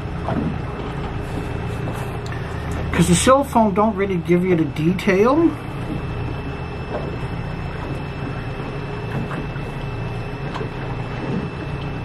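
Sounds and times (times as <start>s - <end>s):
boat engine droning: 0.0s - 12.0s
thin high whine: 0.0s - 12.0s.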